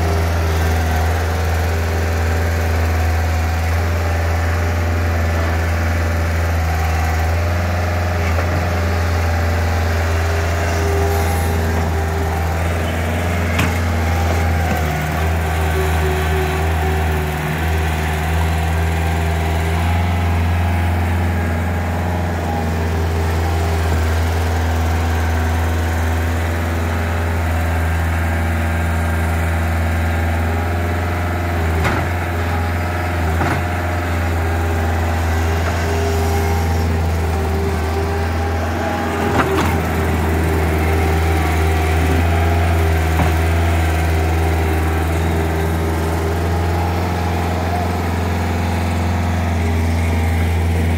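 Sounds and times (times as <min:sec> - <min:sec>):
diesel engine humming: 0:00.0 - 0:50.9.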